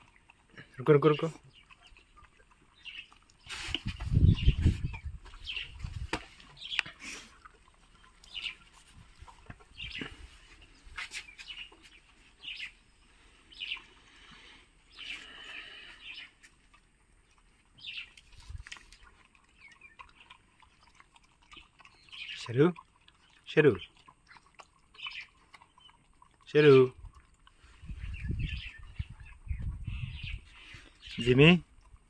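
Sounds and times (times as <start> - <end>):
dog chewing and licking: 0.0 - 12.8, 16.0 - 32.0
bird chirping: 0.0 - 16.5, 17.2 - 31.9.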